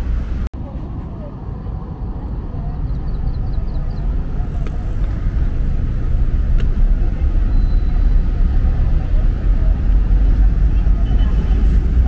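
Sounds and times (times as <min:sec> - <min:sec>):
low rumble of traffic and buses: 0:00.0 - 0:12.0.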